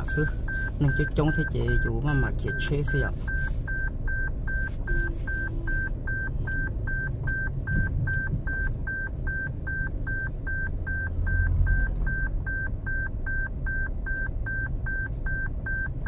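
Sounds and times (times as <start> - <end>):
car driving rumble: 0.0 - 16.0
vehicle warning chime beeping: 0.0 - 16.0.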